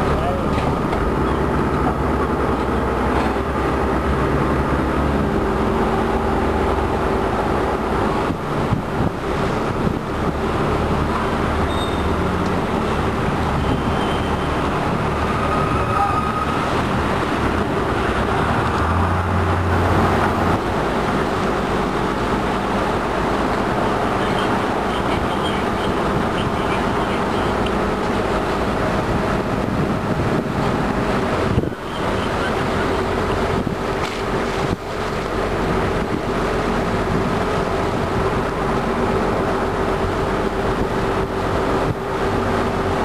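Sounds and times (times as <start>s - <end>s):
motorboat engine droning: 0.0s - 43.0s
rushing water noise: 0.0s - 43.0s.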